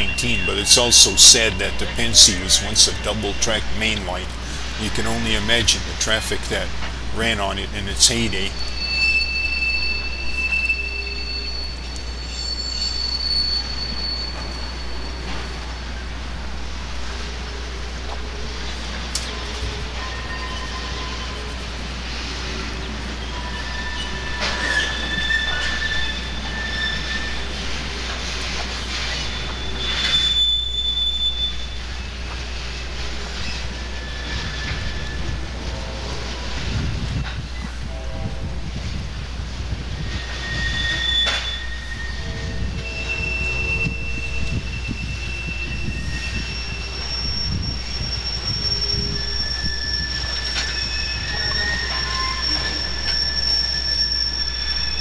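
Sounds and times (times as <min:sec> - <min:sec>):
low rumble of train: 0:00.0 - 0:55.0
train wheels squealing on rail: 0:00.0 - 0:55.0.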